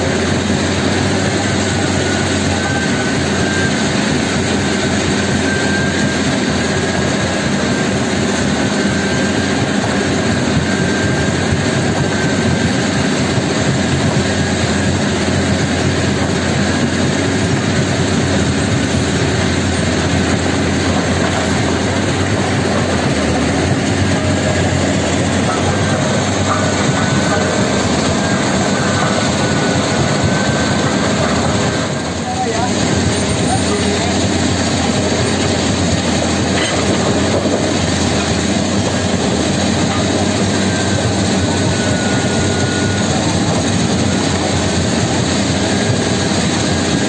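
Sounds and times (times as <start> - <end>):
excavator diesel engine: 0.0 - 47.0
stone crusher running: 0.0 - 47.0.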